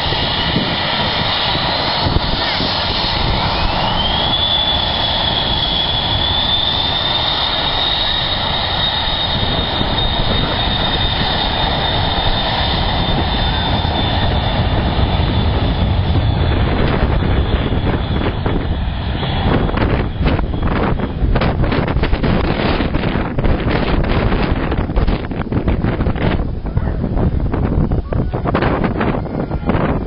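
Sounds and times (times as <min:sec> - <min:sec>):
jet engines whining: 0:00.0 - 0:30.0.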